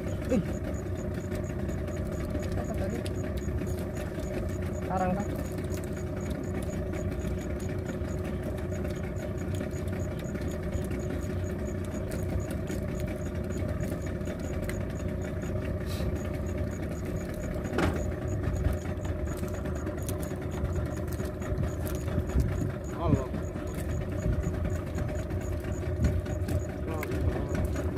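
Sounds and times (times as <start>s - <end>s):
boat engine droning: 0.0s - 27.9s
quick high ticking: 0.0s - 27.9s.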